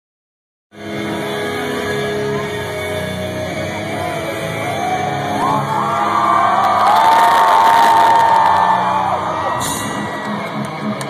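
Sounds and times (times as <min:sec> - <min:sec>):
crowd noise: 0:00.8 - 0:11.0
loud music over sound system: 0:00.8 - 0:11.0.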